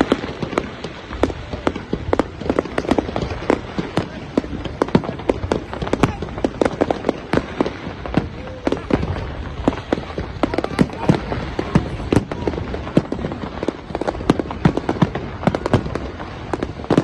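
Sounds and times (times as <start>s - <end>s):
crowd and city noise: 0.0s - 17.0s
fireworks and firecrackers banging: 0.0s - 17.0s.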